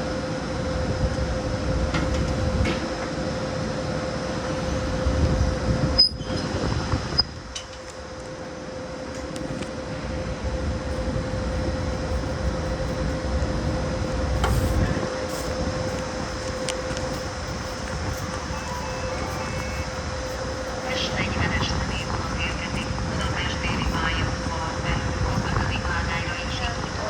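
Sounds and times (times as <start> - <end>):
electric train rumble and hum: 0.0 - 27.0.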